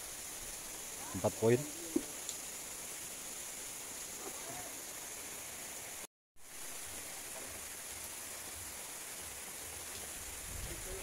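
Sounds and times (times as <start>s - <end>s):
even hiss: 0.0s - 11.0s.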